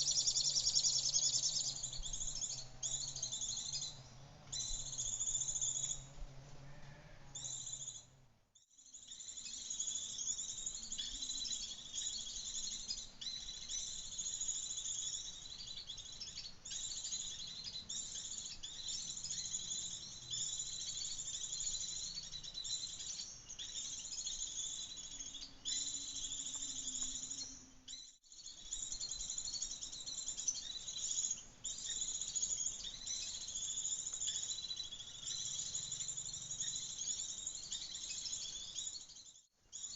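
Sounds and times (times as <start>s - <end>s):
sunbirds chirping and twittering: 0.0s - 39.9s.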